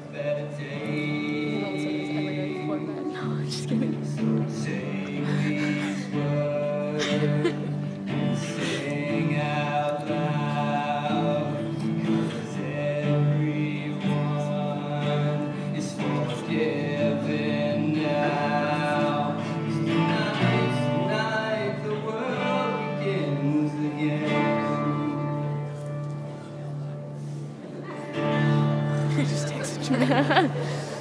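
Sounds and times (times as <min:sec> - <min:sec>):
acoustic guitar: 0:00.0 - 0:31.0.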